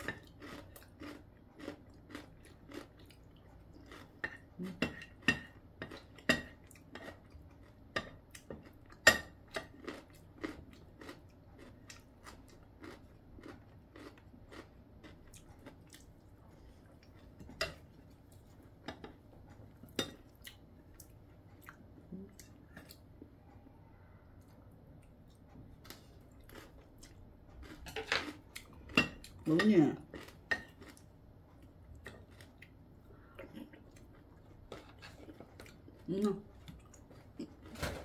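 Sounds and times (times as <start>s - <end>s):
crunchy chewing of food: 0.0s - 23.6s, 24.4s - 37.9s.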